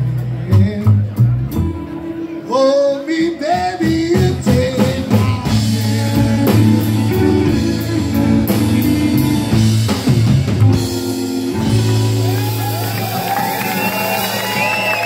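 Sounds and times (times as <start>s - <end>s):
live rockabilly band playing: 0.0s - 15.0s.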